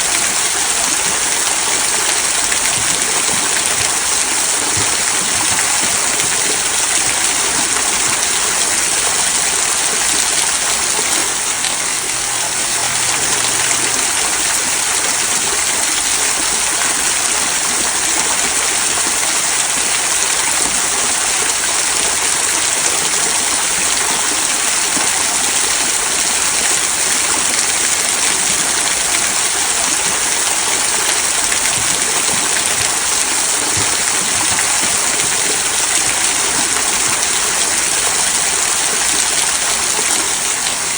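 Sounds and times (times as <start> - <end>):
waterfall trickling over rocks: 0.0 - 40.9.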